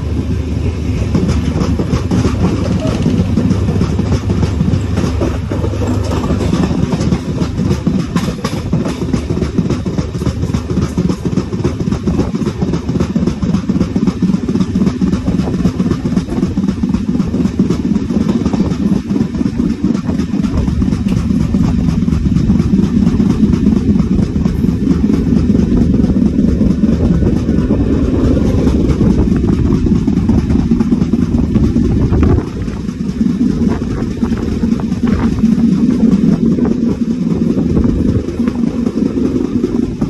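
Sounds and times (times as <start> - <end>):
flat wheel pounding: 0.0 - 40.0
train wheels rumbling on rail: 0.0 - 40.0.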